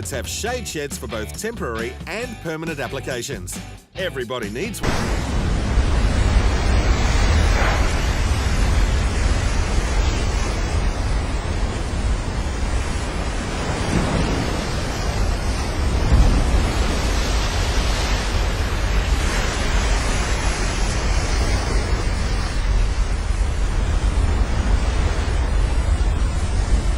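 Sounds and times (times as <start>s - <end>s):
ocean surf breaking: 4.8s - 26.9s
wind buffeting microphone: 5.3s - 26.9s.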